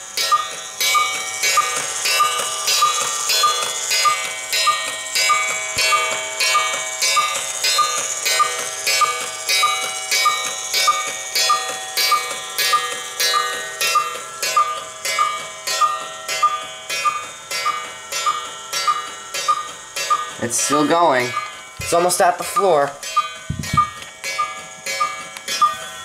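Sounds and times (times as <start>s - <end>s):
cuckoo clock calling: 0.1s - 26.0s.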